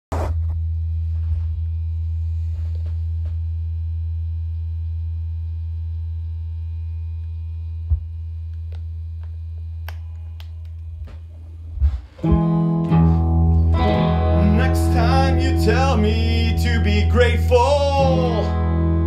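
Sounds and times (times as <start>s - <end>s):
low electrical hum: 0.2s - 19.0s.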